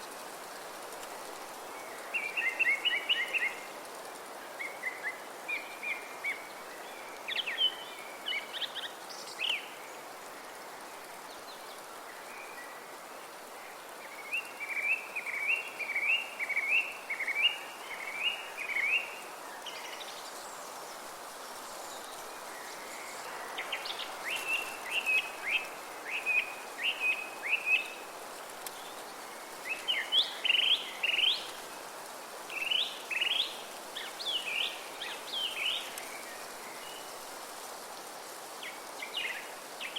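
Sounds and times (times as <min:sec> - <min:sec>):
wind through trees: 0:00.0 - 0:39.9
songbirds chirping: 0:00.6 - 0:39.9.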